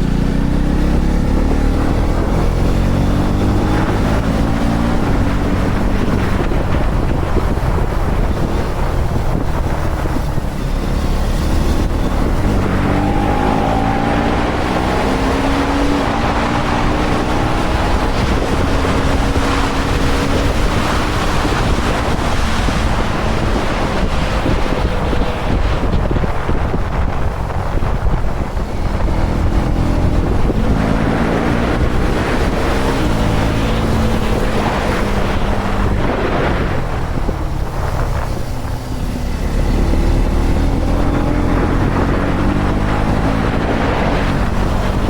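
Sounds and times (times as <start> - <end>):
motorcycle engine running: 0.0 - 45.0
wind noise on microphone: 0.0 - 45.0.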